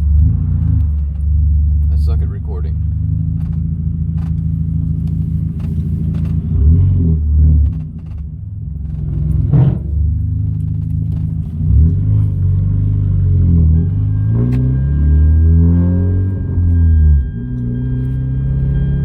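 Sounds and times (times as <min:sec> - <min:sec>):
turbocharged car engine accelerating: 0:00.0 - 0:19.0.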